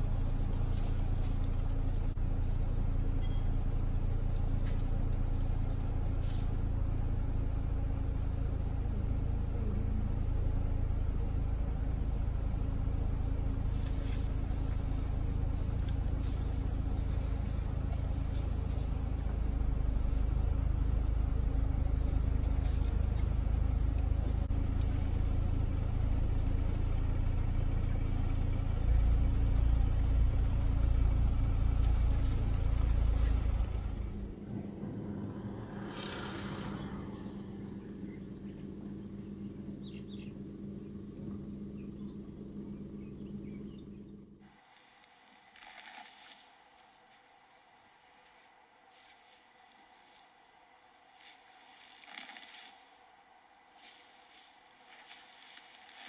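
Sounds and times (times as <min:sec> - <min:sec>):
faint clicks and rustles: 0:00.0 - 0:08.6, 0:11.7 - 0:36.1, 0:40.4 - 0:56.0
engine idling: 0:00.0 - 0:56.0.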